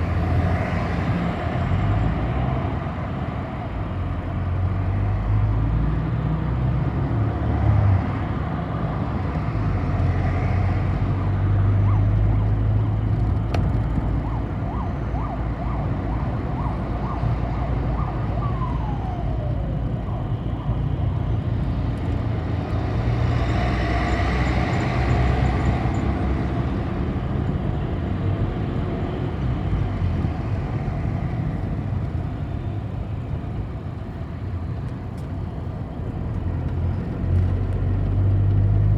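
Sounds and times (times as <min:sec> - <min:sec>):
bus engine hum: 0:00.0 - 0:38.9
road noise: 0:00.0 - 0:38.9.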